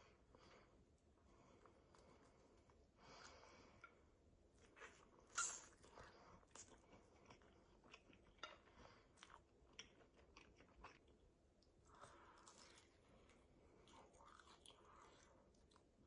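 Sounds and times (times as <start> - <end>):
person chewing food: 0.9 - 16.0.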